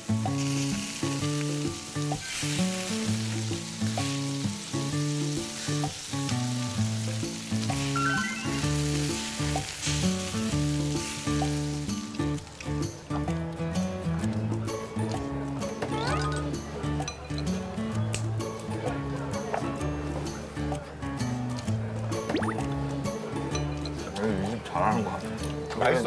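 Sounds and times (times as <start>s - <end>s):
background music with bass line: 0.0s - 24.6s
skewers sizzling on grill: 0.0s - 26.0s.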